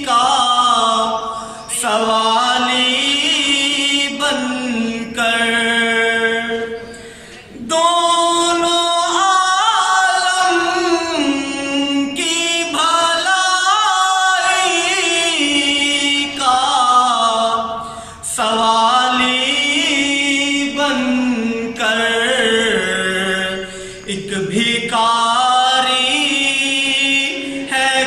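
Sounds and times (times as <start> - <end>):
young man singing unaccompanied: 0.0 - 28.0.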